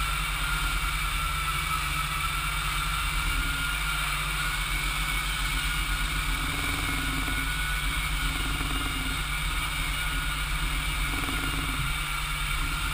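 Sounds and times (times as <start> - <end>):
floor sander motor drone: 0.0 - 12.9
steady high whine: 0.0 - 12.9.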